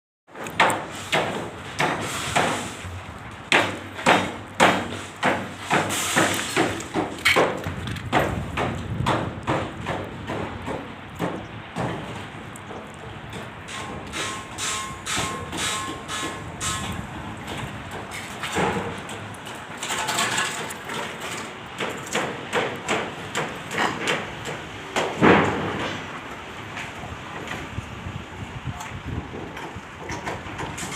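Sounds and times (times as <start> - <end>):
hammering and banging: 0.4 - 27.7, 29.2 - 30.9.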